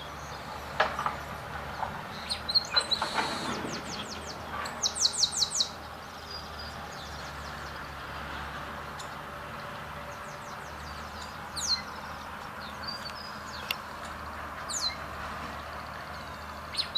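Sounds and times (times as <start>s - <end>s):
songbirds singing: 0.0s - 16.9s.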